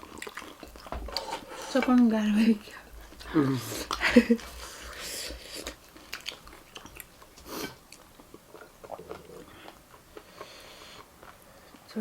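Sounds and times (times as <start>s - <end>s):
chewing crunchy dry rice: 0.0s - 2.1s, 2.8s - 11.9s.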